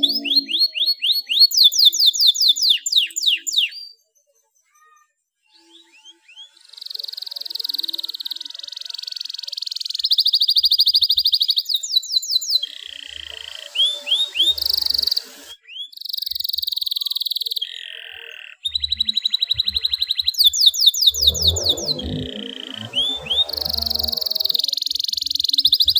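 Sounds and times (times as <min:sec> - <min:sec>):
canary singing trills: 0:00.0 - 0:25.9.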